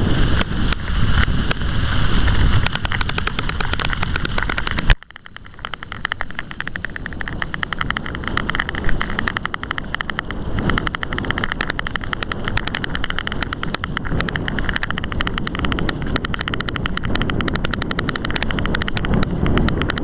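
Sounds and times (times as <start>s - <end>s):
tyres on dry leaves: 0.0s - 19.5s
bike rattling over bumps: 0.0s - 20.0s
wind rushing: 0.0s - 20.0s.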